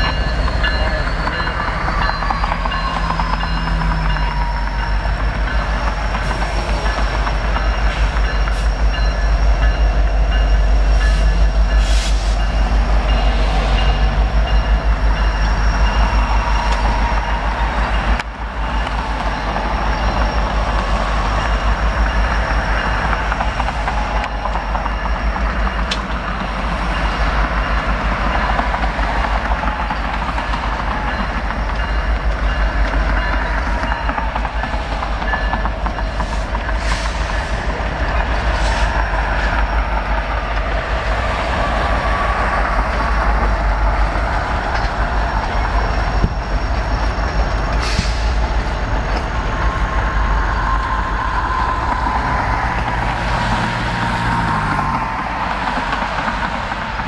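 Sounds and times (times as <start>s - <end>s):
diesel locomotive engine: 0.0s - 57.0s
train wheels rumbling on rail: 0.0s - 57.0s.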